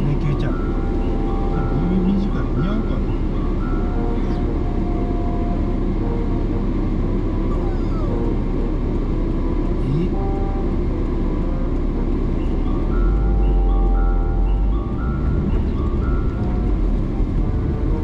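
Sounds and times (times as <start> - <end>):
car engine: 0.0 - 18.0
road noise inside car: 0.0 - 18.0.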